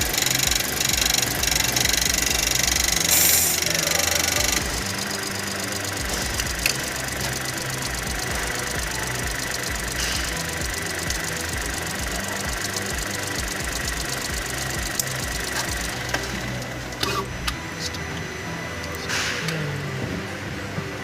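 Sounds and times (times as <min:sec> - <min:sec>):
fuel pump ticking: 0:00.0 - 0:18.0
sharp clicks: 0:00.0 - 0:18.0
car engine running: 0:00.0 - 0:21.0.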